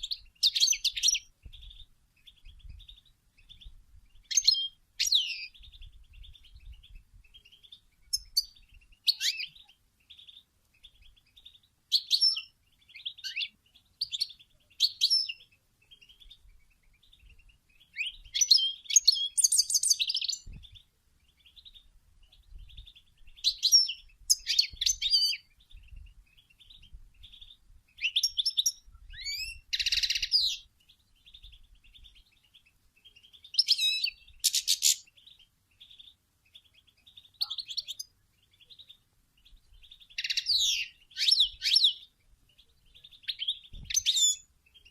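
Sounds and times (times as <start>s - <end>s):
faint bird twitter: 0.0s - 44.9s
finch chirps and trills: 0.0s - 44.9s.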